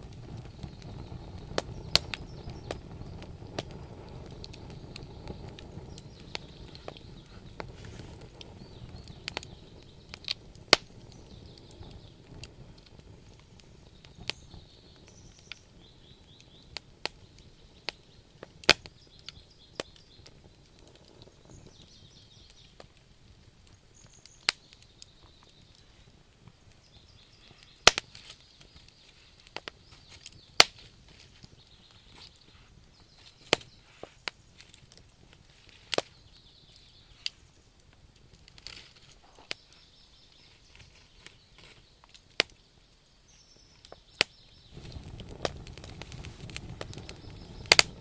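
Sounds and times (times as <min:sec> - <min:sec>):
low rumble of flames: 0:00.0 - 0:42.9, 0:43.8 - 0:48.0
fire crackles and pops: 0:00.0 - 0:48.0.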